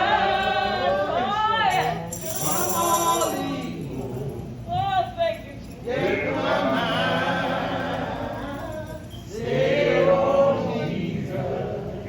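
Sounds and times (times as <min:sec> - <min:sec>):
voices singing gospel song: 0:00.0 - 0:12.0.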